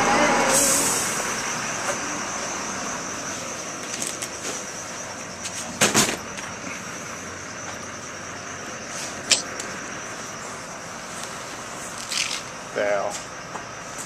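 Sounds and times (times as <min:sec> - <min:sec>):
coach engines humming: 0:00.0 - 0:14.0.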